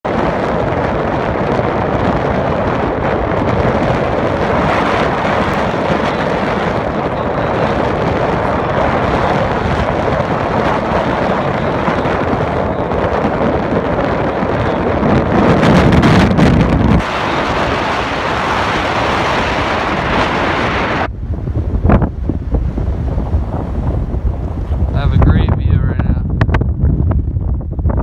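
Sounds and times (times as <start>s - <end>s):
strong wind blowing: 0.0s - 28.0s.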